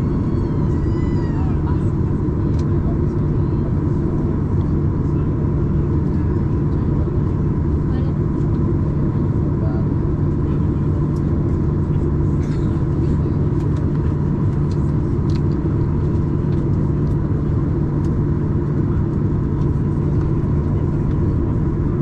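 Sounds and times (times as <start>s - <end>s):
airliner cabin engine rumble: 0.0s - 22.0s
constant hum: 0.0s - 22.0s.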